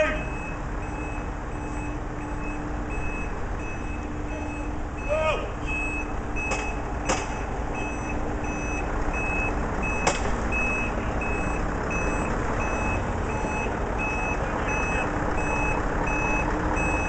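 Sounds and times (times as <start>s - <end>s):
low engine rumble: 0.0s - 17.0s
truck reversing alarm beeping: 0.0s - 17.0s.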